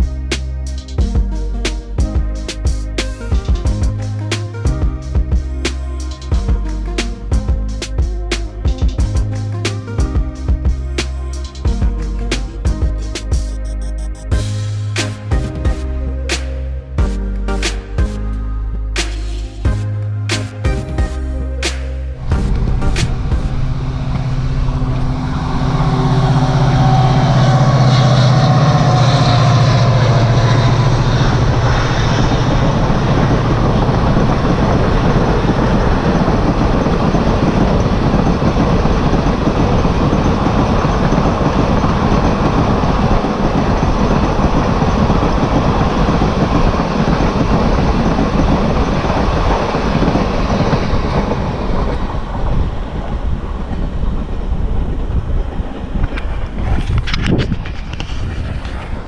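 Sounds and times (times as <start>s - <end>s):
diesel locomotive engine: 0.0s - 59.0s.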